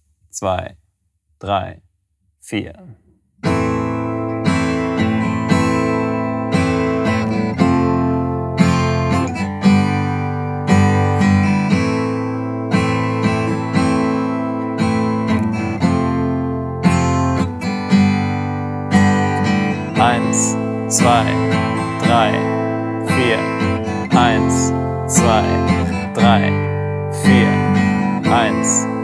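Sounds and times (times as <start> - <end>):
acoustic guitar strumming: 3.4 - 29.0.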